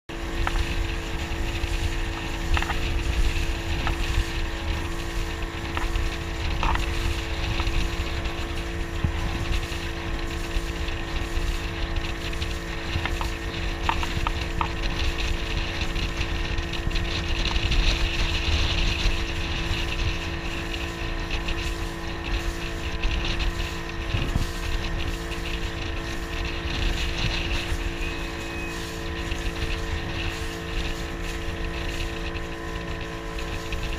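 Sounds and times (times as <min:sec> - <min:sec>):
motorboat engine running: 0:00.1 - 0:33.9
wind rumbling on microphone: 0:00.1 - 0:33.9.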